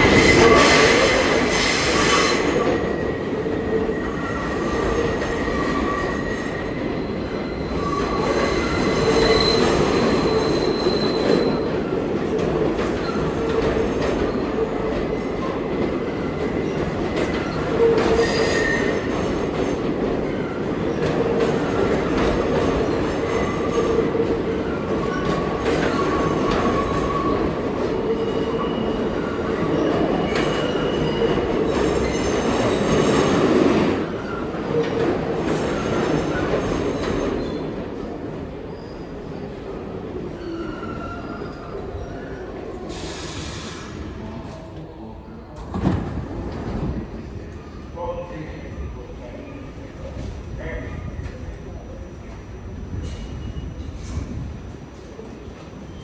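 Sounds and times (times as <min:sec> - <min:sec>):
subway train rail rumble: 0:00.0 - 0:56.0.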